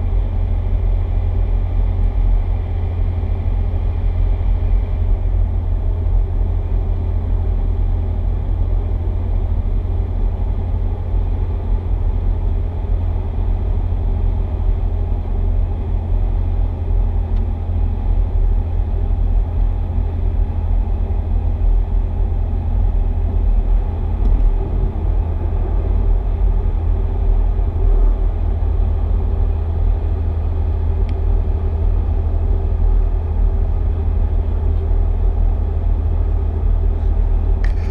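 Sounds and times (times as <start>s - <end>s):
car engine and tyre noise: 0.0s - 37.9s.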